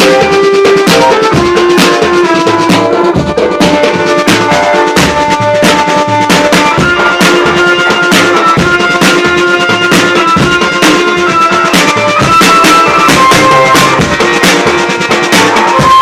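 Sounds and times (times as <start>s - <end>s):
live band playing instrumental: 0.0s - 16.0s
steady drum beat: 0.0s - 16.0s.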